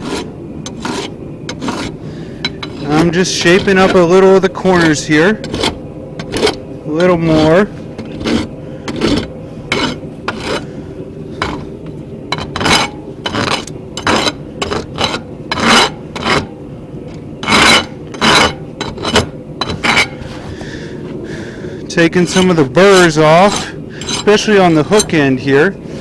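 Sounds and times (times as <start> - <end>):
rasp filing steel: 0.0 - 10.8, 11.4 - 20.5, 22.1 - 25.3.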